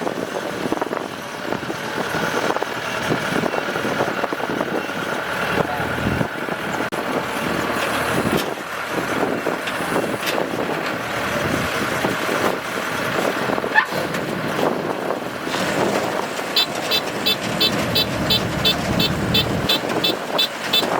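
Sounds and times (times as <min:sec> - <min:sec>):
combine harvester drone: 0:00.0 - 0:14.6, 0:15.2 - 0:20.9.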